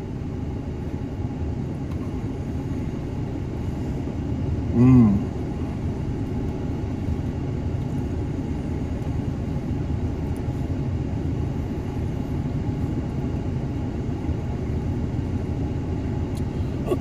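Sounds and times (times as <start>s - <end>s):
low rumble of vehicle noise: 0.0s - 17.0s.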